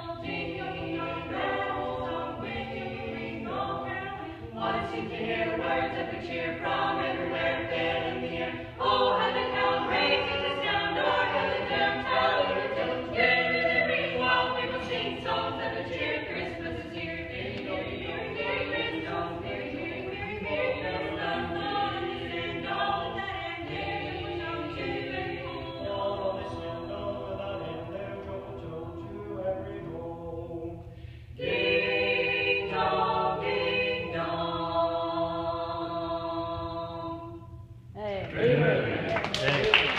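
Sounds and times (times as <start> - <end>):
group singing a carol in harmony: 0.0 - 37.6, 38.3 - 39.1.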